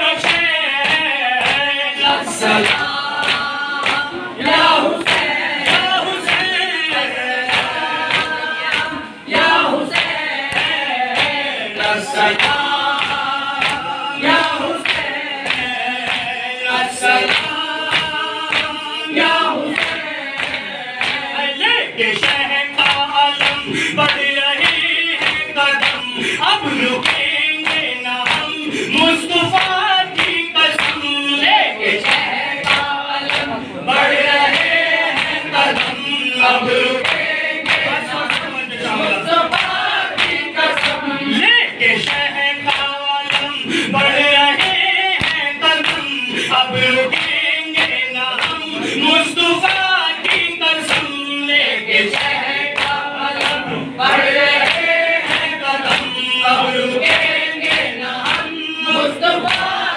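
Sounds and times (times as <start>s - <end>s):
men chanting in unison: 0.0s - 59.9s.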